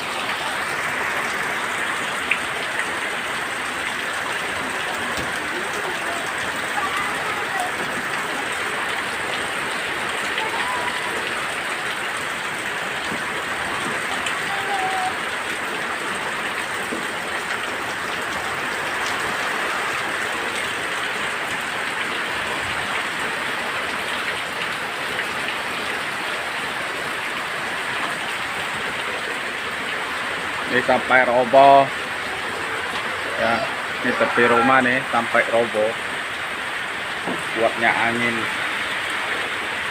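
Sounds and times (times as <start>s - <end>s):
heavy rain in strong wind: 0.0s - 39.9s.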